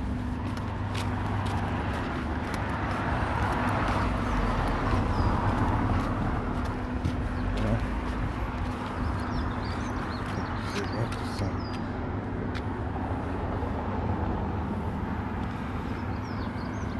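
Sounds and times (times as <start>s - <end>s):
motor vehicle passing by: 0.0s - 16.9s.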